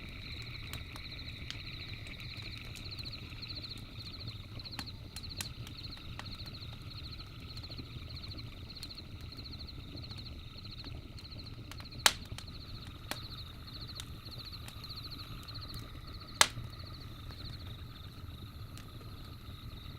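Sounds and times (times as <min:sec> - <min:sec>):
campfire crackling: 0:00.0 - 0:19.9
insects chirping in trills: 0:00.0 - 0:19.9.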